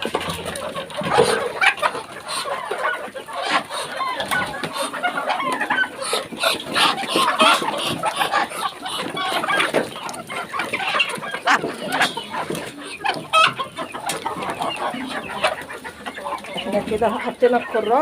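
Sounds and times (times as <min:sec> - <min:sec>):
chickens clucking and calling: 0:00.0 - 0:18.0.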